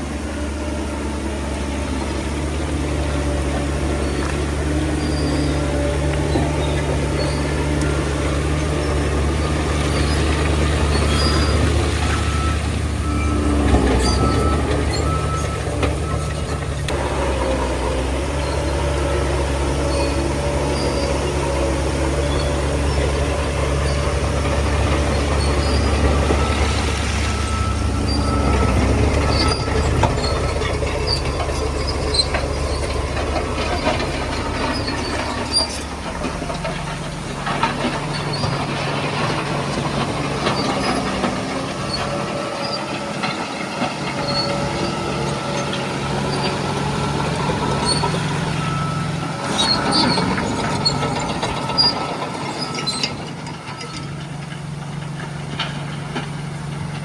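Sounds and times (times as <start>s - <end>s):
bulldozer diesel engine running: 0.0s - 57.0s
steel tracks clanking and squealing: 0.0s - 57.0s.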